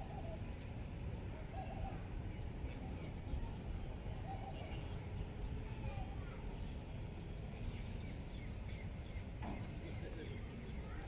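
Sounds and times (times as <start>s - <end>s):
faint distant voices: 0.0s - 8.1s, 9.4s - 11.0s.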